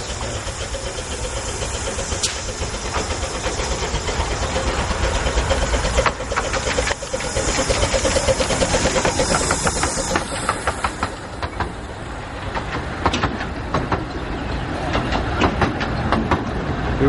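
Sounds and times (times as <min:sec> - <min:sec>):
steam hissing: 0:00.0 - 0:16.1
wheels clicking over rail joints: 0:00.0 - 0:16.9.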